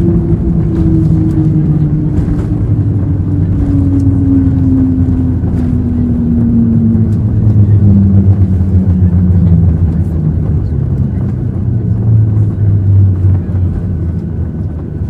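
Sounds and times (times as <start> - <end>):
aircraft rolling on runway: 0.0 - 15.0
jet engines spooling down: 0.0 - 15.0.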